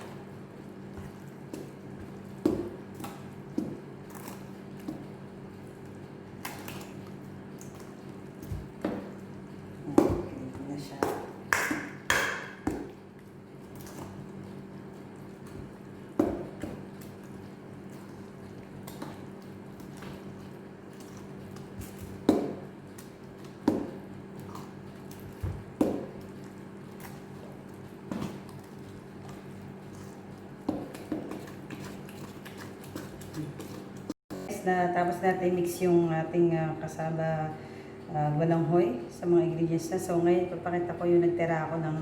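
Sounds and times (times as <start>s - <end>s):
thick batter being stirred: 0.0s - 34.2s.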